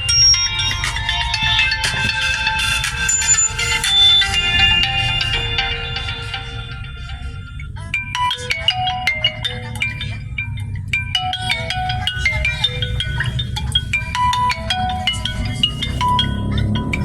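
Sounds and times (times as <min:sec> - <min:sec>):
phone ringtone melody: 0:00.0 - 0:17.0.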